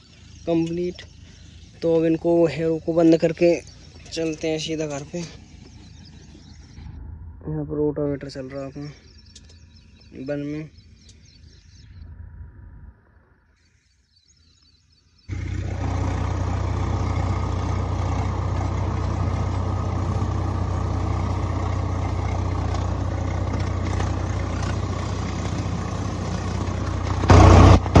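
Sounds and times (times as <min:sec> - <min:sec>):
tractor diesel engine running: 0:00.0 - 0:11.6, 0:15.3 - 0:28.0.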